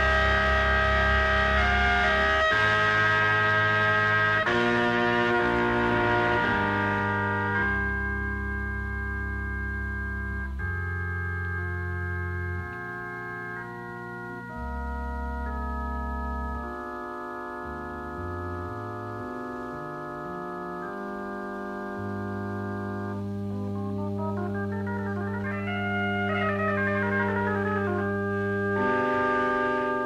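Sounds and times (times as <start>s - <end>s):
organ playing chords and runs: 0.0s - 30.0s.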